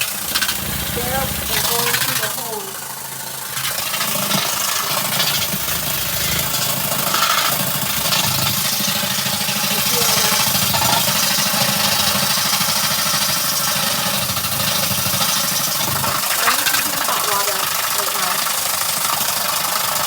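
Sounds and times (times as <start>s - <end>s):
water hissing: 0.0s - 19.4s
washing machine motor humming: 0.0s - 20.0s.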